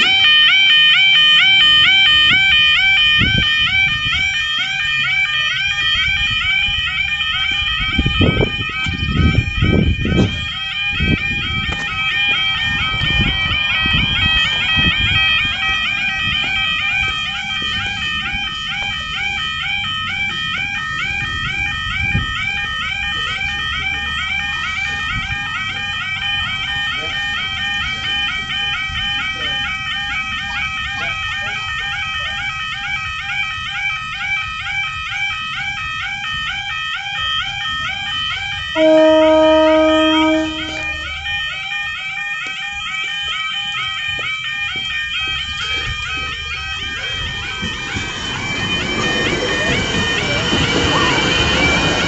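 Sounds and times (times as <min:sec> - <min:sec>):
level crossing alarm warbling: 0:00.0 - 0:52.0.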